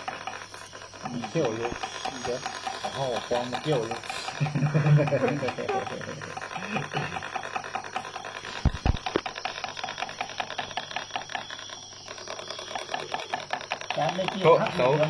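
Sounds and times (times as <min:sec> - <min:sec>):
stick rasping against wood: 0:00.0 - 0:15.0.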